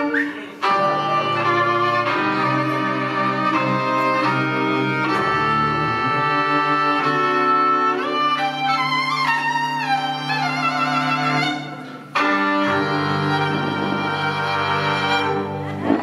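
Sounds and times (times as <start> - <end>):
cello bowing held notes: 0.0 - 16.0
violin bowing held notes: 0.0 - 16.0.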